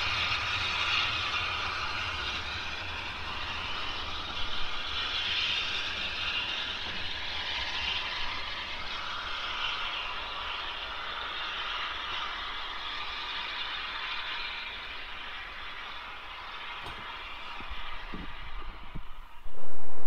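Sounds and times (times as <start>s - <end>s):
steam train rolling hiss: 0.0s - 19.4s
low rumble of train: 0.0s - 20.0s.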